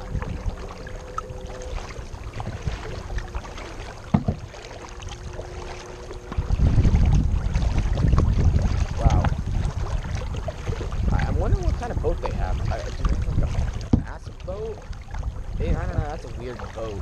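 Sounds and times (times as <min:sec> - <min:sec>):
paddle strokes in water: 0:00.0 - 0:17.0
wind rumble on microphone: 0:00.0 - 0:17.0.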